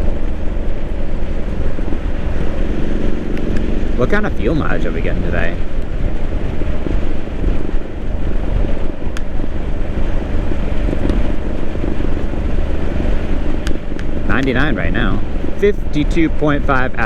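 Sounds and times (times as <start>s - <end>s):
motorcycle engine running: 0.0s - 17.0s
wind rumbling on microphone: 0.0s - 17.0s.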